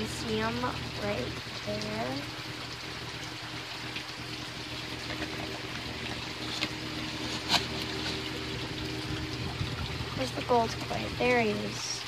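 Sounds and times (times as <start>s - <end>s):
faint steady hum: 0.0s - 12.0s
water trickling: 0.0s - 12.0s.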